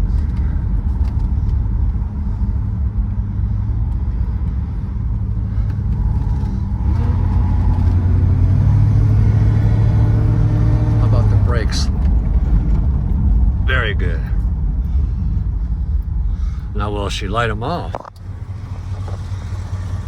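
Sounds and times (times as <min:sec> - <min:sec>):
car engine accelerating: 0:00.0 - 0:20.0
road noise: 0:00.0 - 0:20.0.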